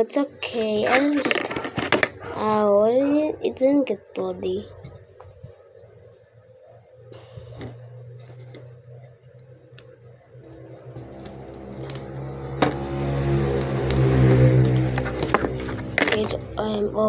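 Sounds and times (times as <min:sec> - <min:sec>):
motor hum: 0:00.0 - 0:17.0.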